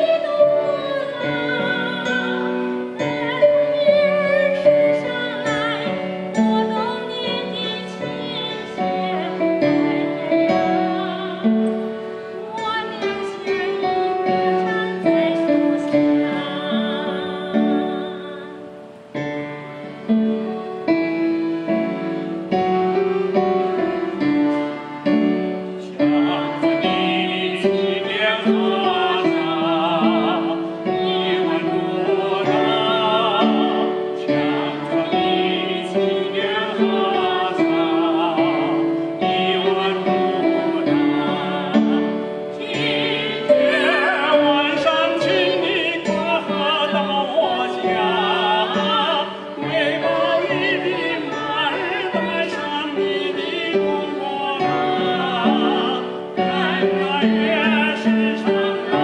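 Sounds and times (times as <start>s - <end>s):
man and woman singing a duet: 0.0s - 19.0s, 24.1s - 59.0s.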